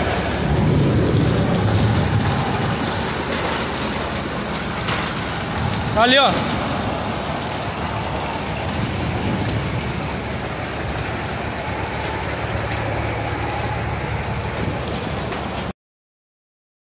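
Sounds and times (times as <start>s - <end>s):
floodwater streaming: 0.0s - 15.7s
heavy rain pouring: 0.0s - 15.7s.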